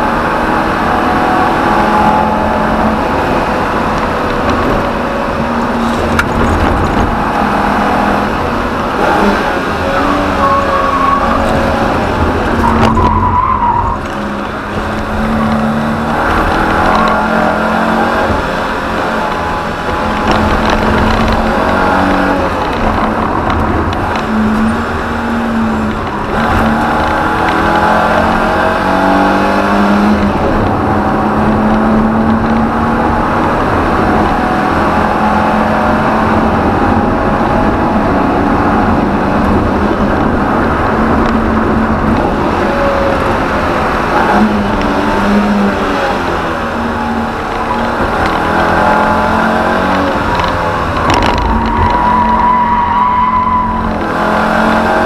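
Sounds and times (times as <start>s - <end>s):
car engine under load: 0.0s - 55.0s
road and wind noise: 0.0s - 55.0s.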